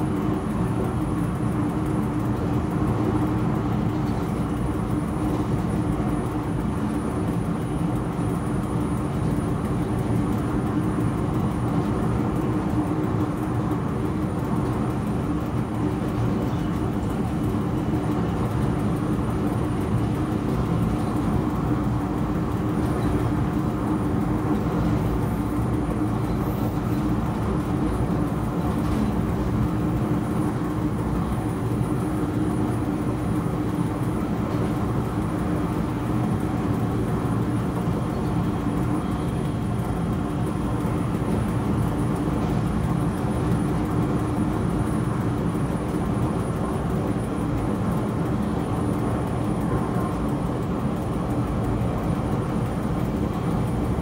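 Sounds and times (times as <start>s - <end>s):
locomotive hum: 0.0s - 54.0s
wheels rolling on rail: 0.0s - 54.0s.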